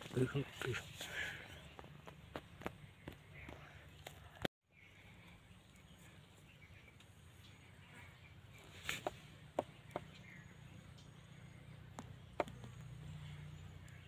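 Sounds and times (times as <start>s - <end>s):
faint garden ambience: 0.0s - 14.0s.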